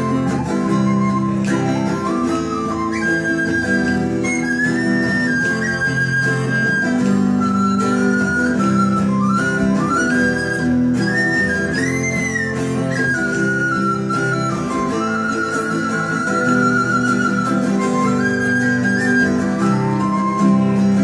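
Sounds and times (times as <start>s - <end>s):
acoustic guitars strumming: 0.0s - 21.0s
recorder melody: 0.0s - 21.0s.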